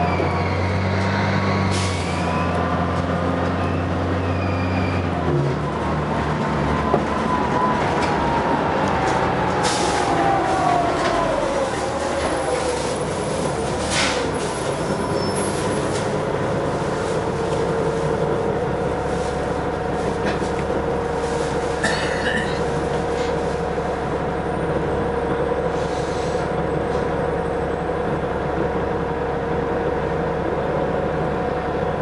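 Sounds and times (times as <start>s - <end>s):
bus interior rumble and whine: 0.0s - 32.0s.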